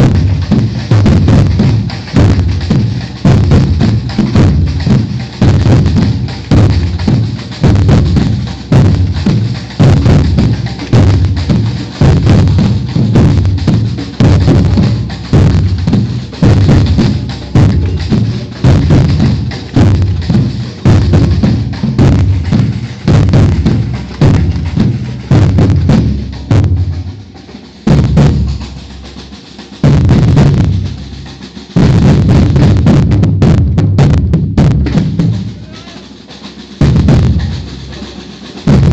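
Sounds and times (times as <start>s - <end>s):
deep bass drum strokes: 0.0s - 35.9s, 36.8s - 37.8s, 38.7s - 38.9s
fast snare strokes: 0.0s - 38.9s
samba percussion ensemble: 0.0s - 38.9s.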